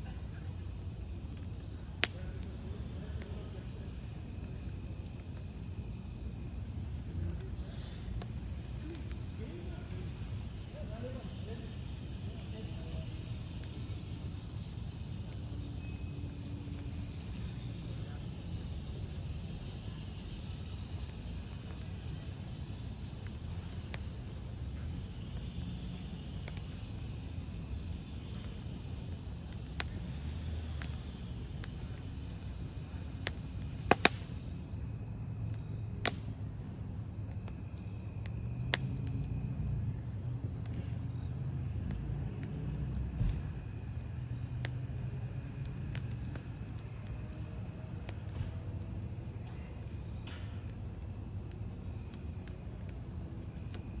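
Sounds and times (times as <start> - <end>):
burning wood popping: 0.0 - 54.0
campfire burning: 0.0 - 54.0
crickets chirring: 0.0 - 54.0.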